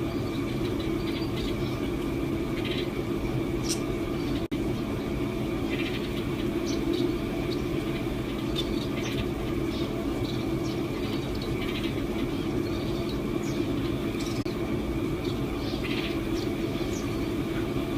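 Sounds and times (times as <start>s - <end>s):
birds chirping: 0.0s - 17.9s
low hum: 0.0s - 17.9s.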